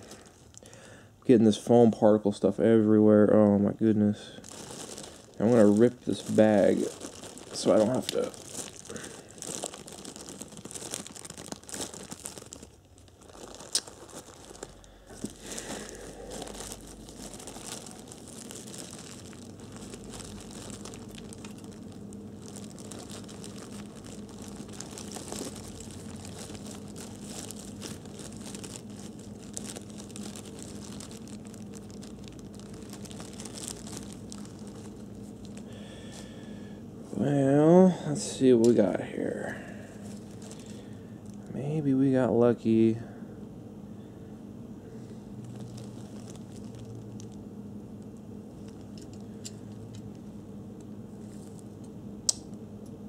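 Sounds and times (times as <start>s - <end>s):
plastic bag crinkling and tearing: 0.0s - 1.0s, 3.3s - 42.9s, 44.8s - 50.2s, 51.2s - 52.5s.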